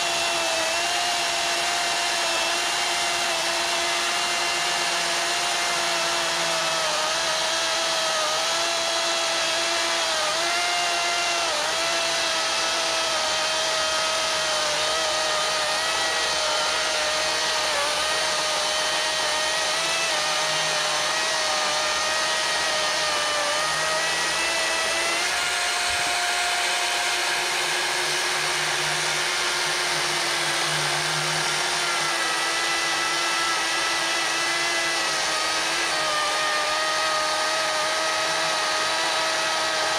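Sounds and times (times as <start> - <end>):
electric chainsaw cutting log: 0.0 - 39.9.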